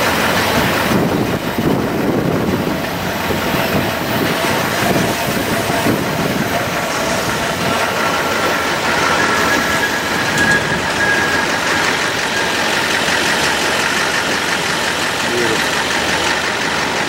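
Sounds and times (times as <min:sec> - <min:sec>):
engine idling: 0:00.0 - 0:17.0
train cars rolling past: 0:00.0 - 0:17.0
wind buffeting microphone: 0:00.1 - 0:15.0.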